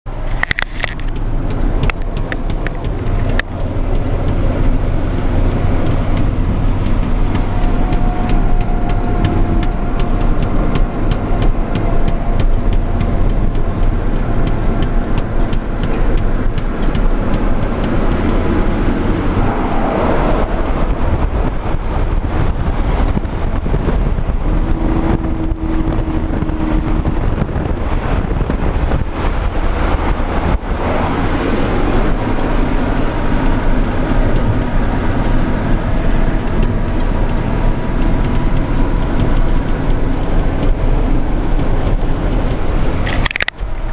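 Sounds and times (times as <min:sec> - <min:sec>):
vehicle road rumble: 0:00.0 - 0:43.9
short knocks and buffets: 0:00.1 - 0:43.9.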